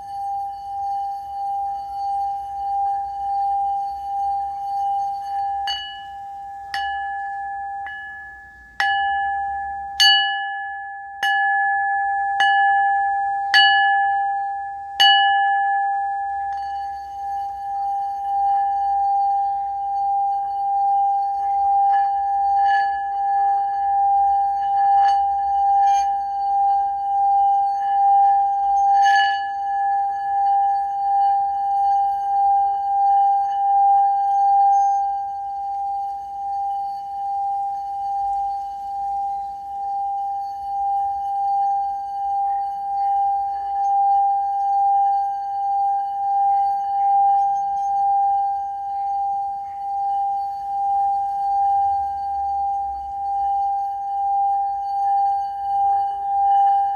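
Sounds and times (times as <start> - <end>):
singing bowl ringing: 0.0 - 56.9
singing bowl strikes: 1.2 - 56.9.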